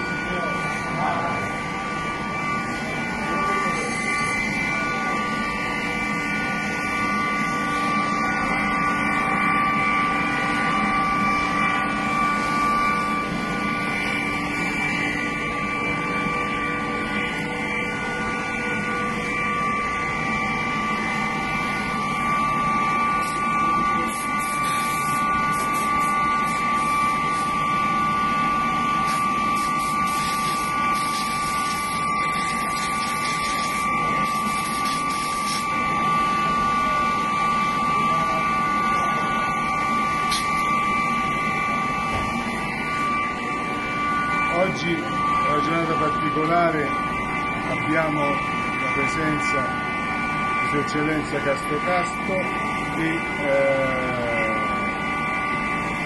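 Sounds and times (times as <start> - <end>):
machine drone with high whine: 0.0 - 56.0.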